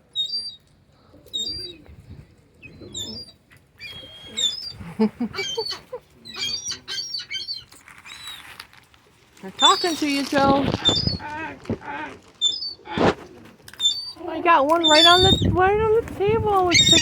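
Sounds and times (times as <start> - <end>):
small birds chirping: 0.1 - 8.7, 9.4 - 11.6, 12.3 - 12.9, 13.7 - 17.0.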